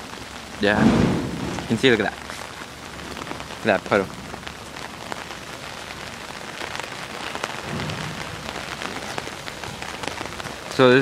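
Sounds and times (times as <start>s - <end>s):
hard rain on pavement: 0.0s - 11.0s.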